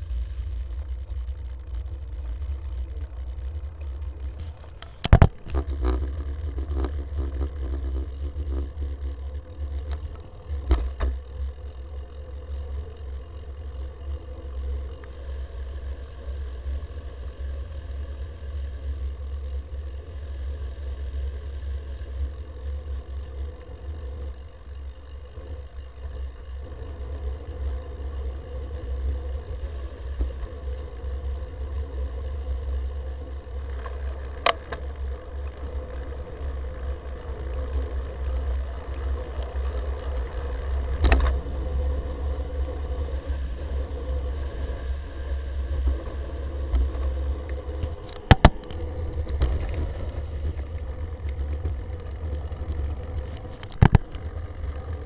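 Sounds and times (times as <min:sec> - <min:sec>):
bicycle road vibration: 0:00.0 - 0:55.0.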